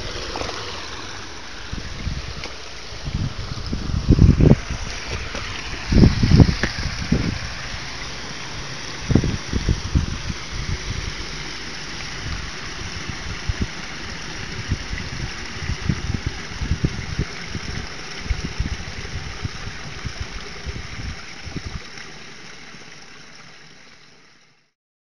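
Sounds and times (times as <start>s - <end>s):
low thumps and rumbles: 0.0s - 21.8s
water trickling into drain: 0.0s - 24.6s.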